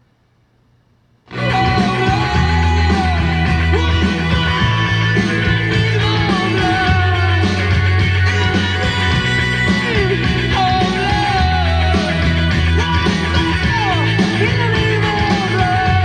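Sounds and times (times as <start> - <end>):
rock song with singing: 1.3 - 16.0.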